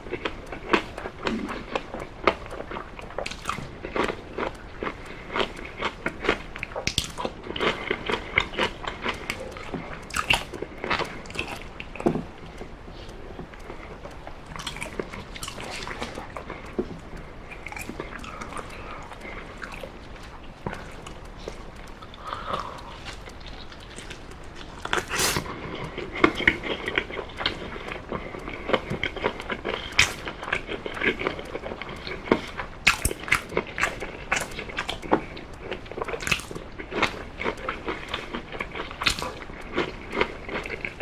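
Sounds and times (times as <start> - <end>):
wet chewing and biting: 0.0 - 41.0.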